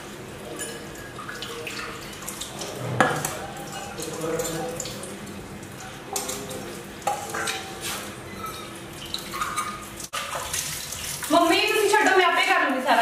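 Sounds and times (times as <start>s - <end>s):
water running from tap: 0.0s - 13.0s
steel utensils clinking in sink: 0.5s - 5.1s, 5.7s - 13.0s.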